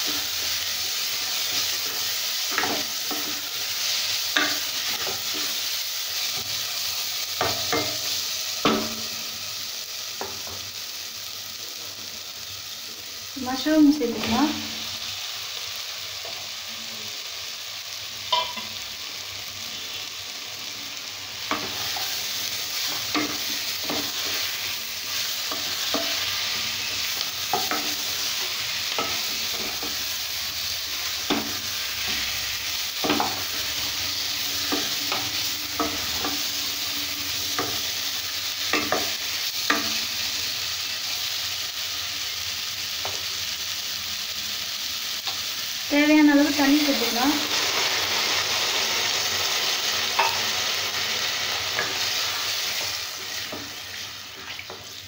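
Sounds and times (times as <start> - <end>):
mushrooms sizzling in oil: 0.0 - 55.0.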